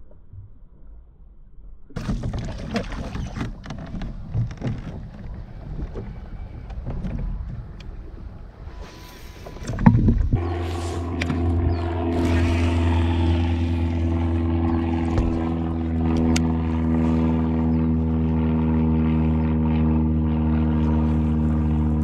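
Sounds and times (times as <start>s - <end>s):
boat motor humming: 2.0s - 22.0s.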